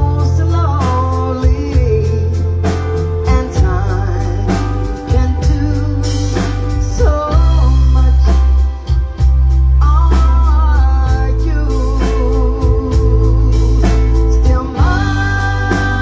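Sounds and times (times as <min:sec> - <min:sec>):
deep bass line: 0:00.0 - 0:16.0
drum kit: 0:00.0 - 0:16.0
guitar: 0:00.0 - 0:16.0
person singing: 0:00.0 - 0:16.0.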